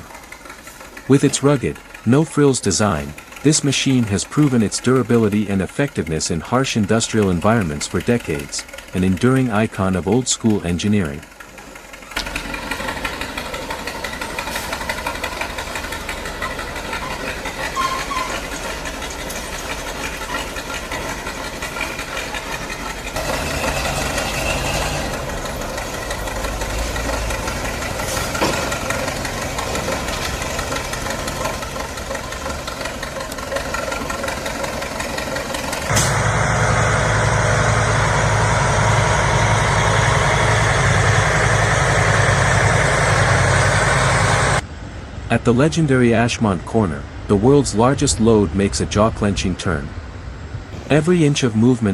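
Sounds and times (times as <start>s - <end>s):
heavy equipment engine running: 0.0s - 45.8s, 49.8s - 51.9s.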